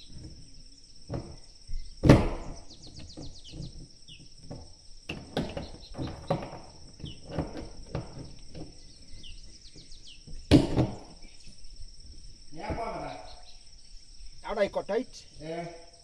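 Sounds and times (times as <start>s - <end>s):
bird chirping: 0.0s - 16.0s
crickets trilling: 0.0s - 16.0s.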